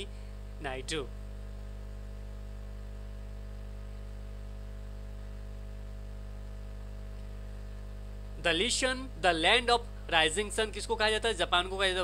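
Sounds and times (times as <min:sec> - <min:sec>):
faint background hiss: 0:00.0 - 0:02.6, 0:05.0 - 0:12.0
electrical mains hum: 0:00.0 - 0:12.0.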